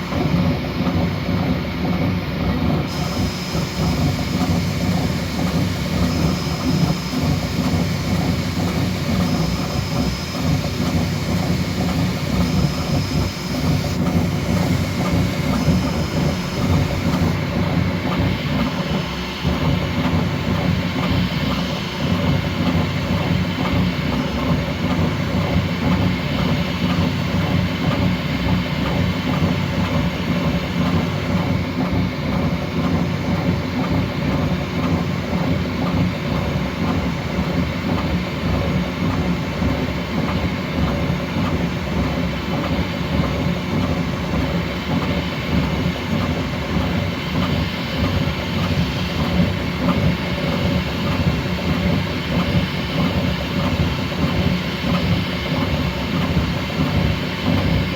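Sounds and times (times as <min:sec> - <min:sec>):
printer motors and fans humming: 0:00.0 - 0:57.9.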